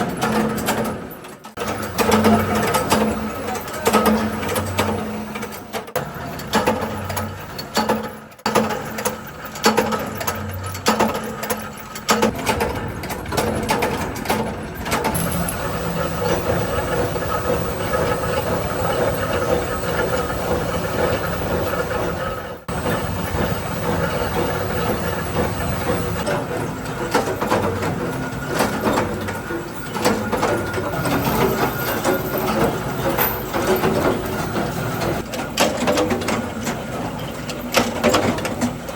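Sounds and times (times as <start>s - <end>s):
workshop machinery clattering: 0.0s - 38.9s.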